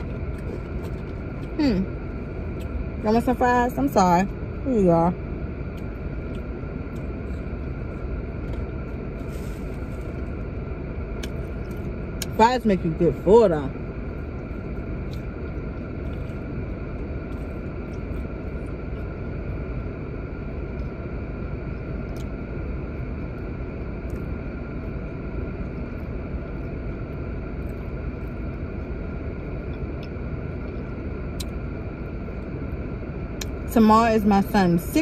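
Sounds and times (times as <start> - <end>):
heater fan hum: 0.0 - 35.0.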